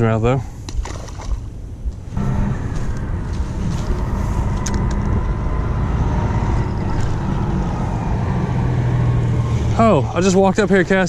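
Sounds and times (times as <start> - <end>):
vehicle engine rumbling: 1.3 - 11.0.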